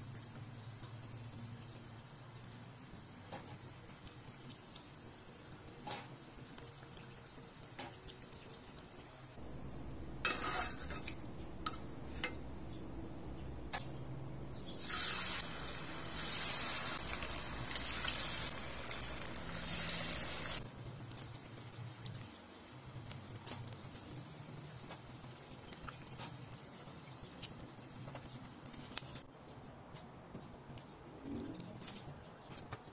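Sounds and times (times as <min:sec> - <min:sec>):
oil sizzling and crackling: 0:00.0 - 0:29.3.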